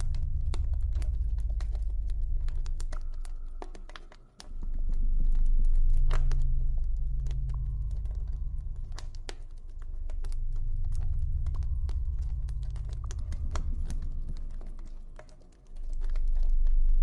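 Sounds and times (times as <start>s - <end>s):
fire low rumble: 0.0s - 3.9s, 4.5s - 15.2s.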